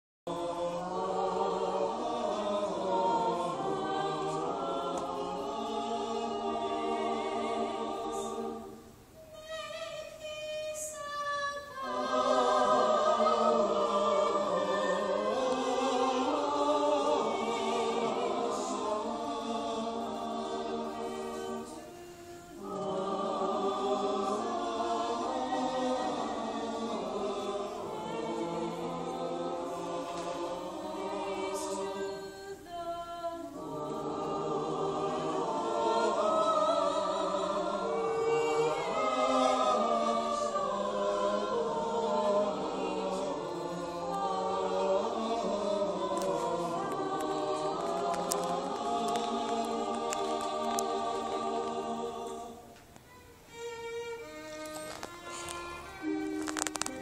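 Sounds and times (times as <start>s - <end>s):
choir singing in harmony: 0.3s - 57.0s.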